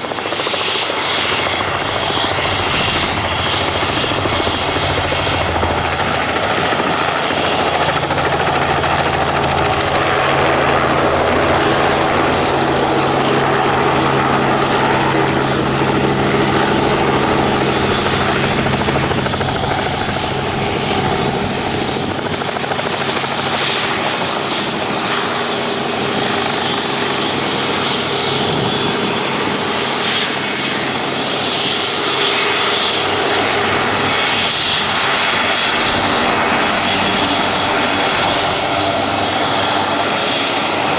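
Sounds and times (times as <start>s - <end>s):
helicopter engine and rotor drone: 0.0s - 40.9s
high turbine whine: 0.0s - 40.9s.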